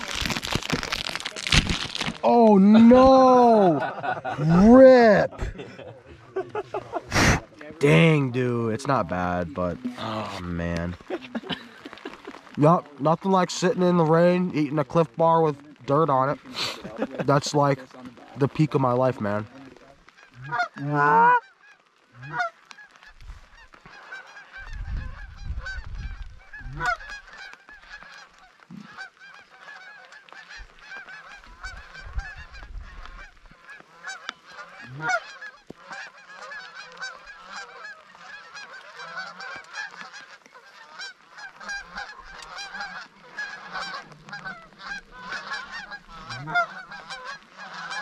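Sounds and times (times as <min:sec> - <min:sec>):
geese honking: 0:06.2 - 0:48.0.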